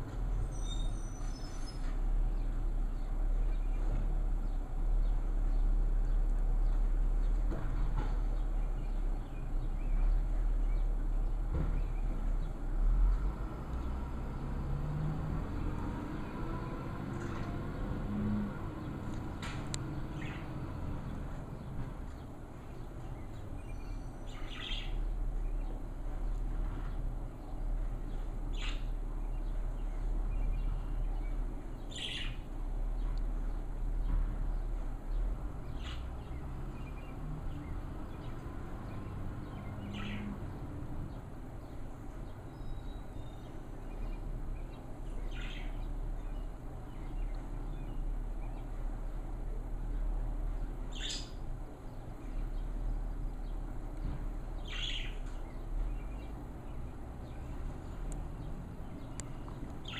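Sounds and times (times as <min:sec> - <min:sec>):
bird chirping: 0:00.3 - 0:07.5, 0:08.2 - 0:12.6, 0:18.7 - 0:33.7, 0:34.5 - 0:48.9, 0:50.8 - 0:53.8, 0:54.5 - 0:59.9.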